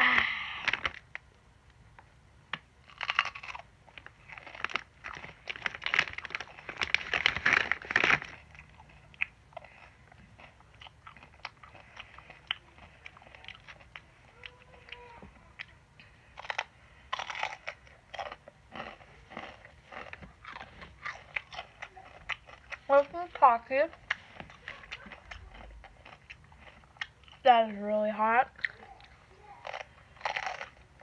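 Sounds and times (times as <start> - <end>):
crunchy biting and chewing: 2.8 - 27.4, 28.6 - 31.0.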